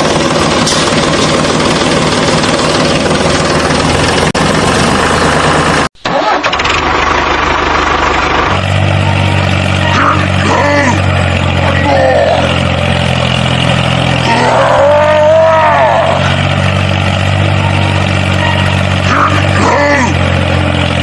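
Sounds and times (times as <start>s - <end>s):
tractor engine clattering: 0.0s - 15.3s, 16.0s - 21.0s.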